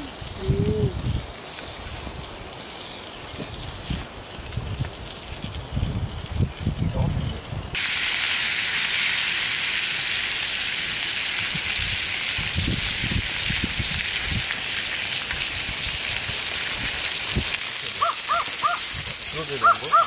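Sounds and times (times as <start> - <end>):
food frying sizzle: 0.0 - 20.0.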